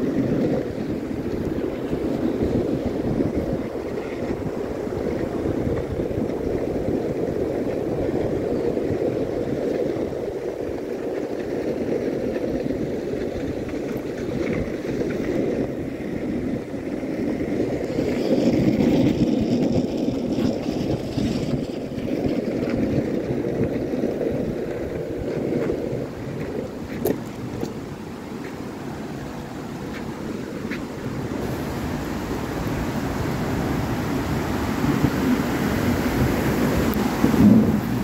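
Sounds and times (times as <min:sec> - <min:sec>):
skateboard wheels on asphalt: 0:00.0 - 0:38.0.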